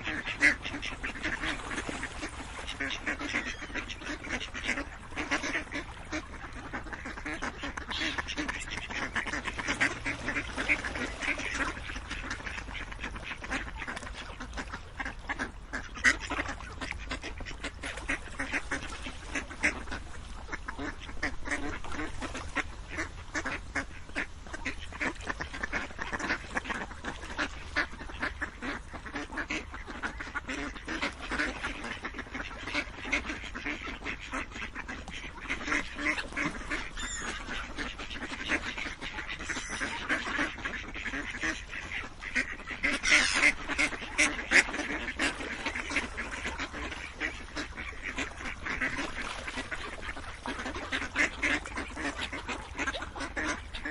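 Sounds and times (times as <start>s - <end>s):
ducks quacking: 0.0s - 53.9s.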